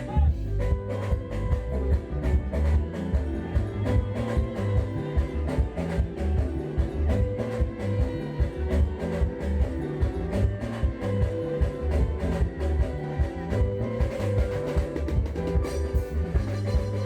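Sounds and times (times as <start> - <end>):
heavy bass line: 0.0 - 17.0
live band playing: 0.0 - 17.0.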